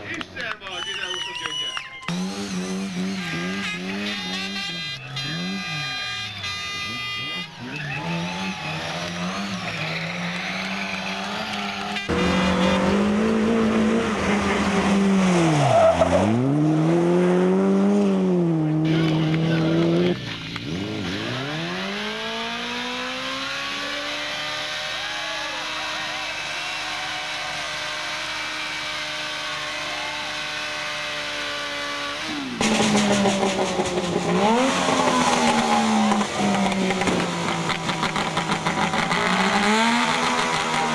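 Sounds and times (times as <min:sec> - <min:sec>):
rally car engines revving: 0:01.5 - 0:40.9.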